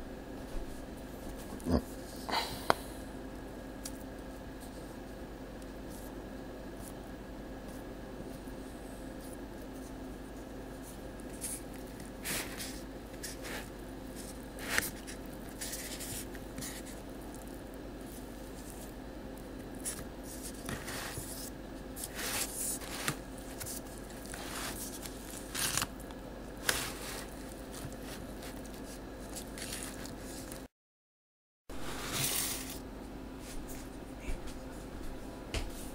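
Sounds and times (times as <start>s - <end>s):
faint steady hum: 0.0s - 30.7s.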